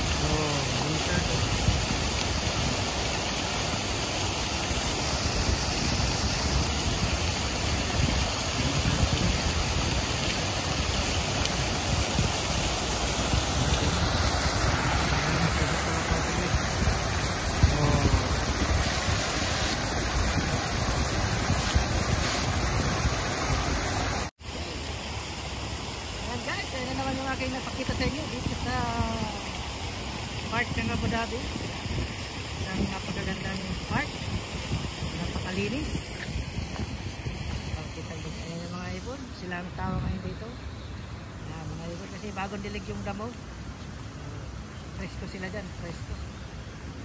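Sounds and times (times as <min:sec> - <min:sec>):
running water splashing: 0:00.0 - 0:47.0.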